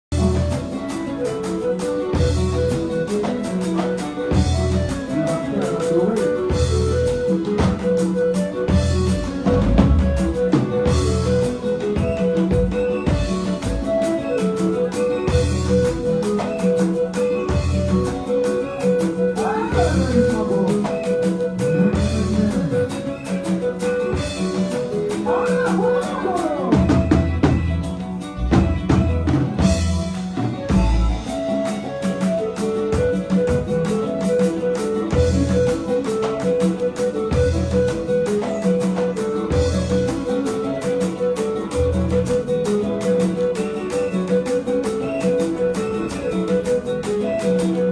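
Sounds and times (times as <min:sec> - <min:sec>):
guitar: 0:00.0 - 0:47.9
drum kit beat: 0:00.1 - 0:47.9.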